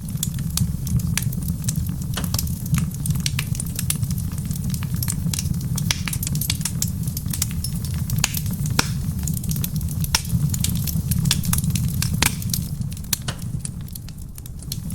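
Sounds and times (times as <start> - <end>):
fire low rumble: 0.0 - 14.9
wood fire crackling and popping: 0.0 - 14.9.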